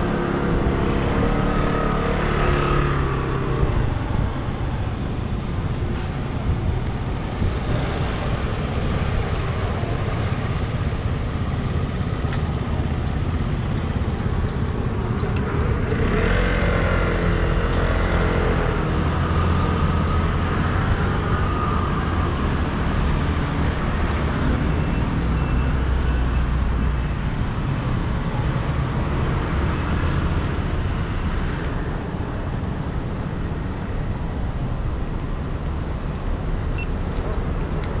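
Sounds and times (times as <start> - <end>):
background street noise: 0.0 - 38.0.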